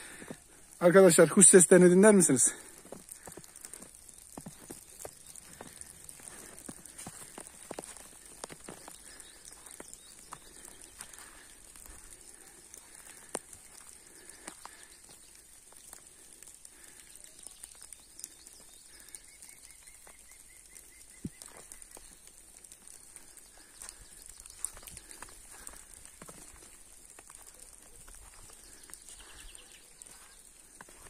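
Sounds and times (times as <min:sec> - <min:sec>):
small birds calling: 0:00.0 - 0:31.0
faint ticks: 0:02.5 - 0:31.0.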